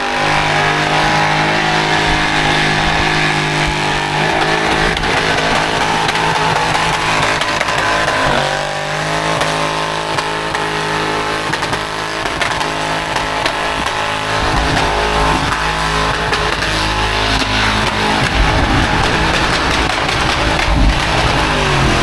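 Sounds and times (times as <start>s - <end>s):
car engine at high revs: 0.0s - 22.0s.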